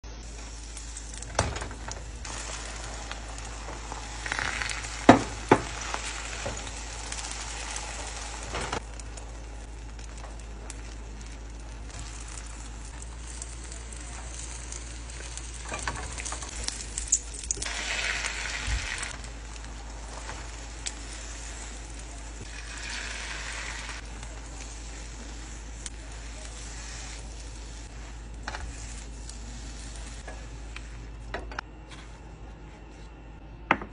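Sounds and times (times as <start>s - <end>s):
egg sizzling in a frying pan: 0.0s - 31.1s.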